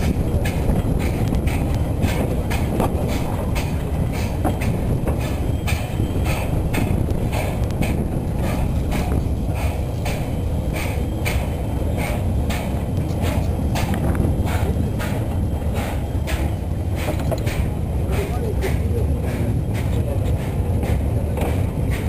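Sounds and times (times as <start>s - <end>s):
rhythmic clatter of train wheels: 0.0s - 22.0s
train rumbling: 0.0s - 22.0s.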